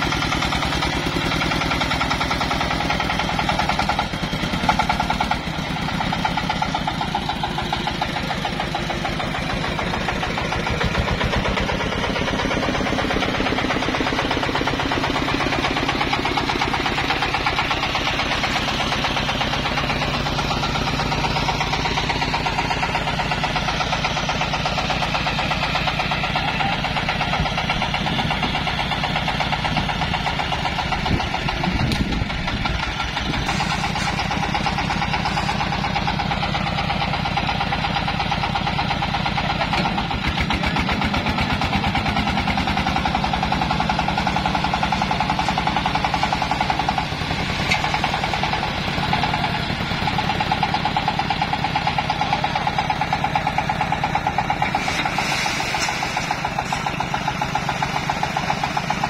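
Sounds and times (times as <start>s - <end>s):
engine chugging: 0.0s - 59.0s.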